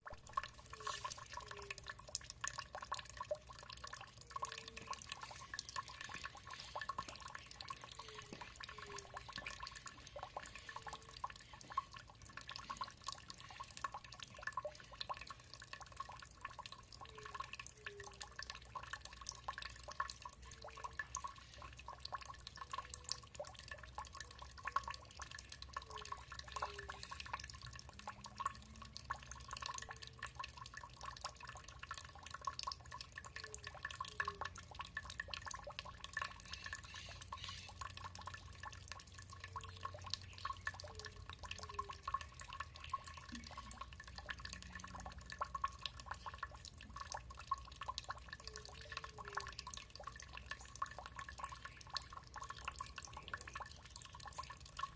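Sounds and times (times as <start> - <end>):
water trickling and dripping: 0.0 - 54.9.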